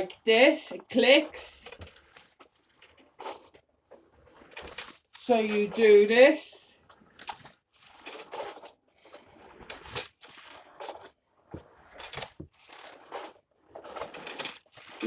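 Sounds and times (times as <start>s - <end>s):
vacuum cleaner wheels rolling and scraping: 0.0s - 15.0s.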